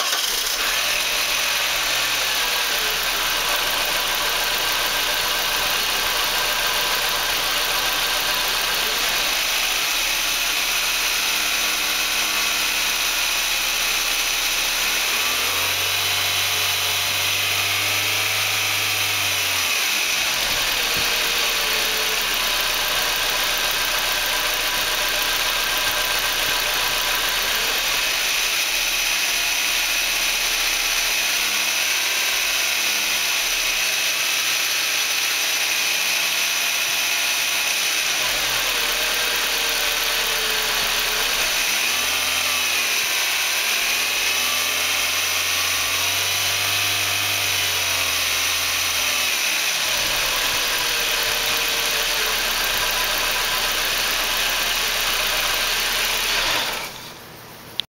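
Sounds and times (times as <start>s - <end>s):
car engine idling with misfire: 0.0s - 57.9s.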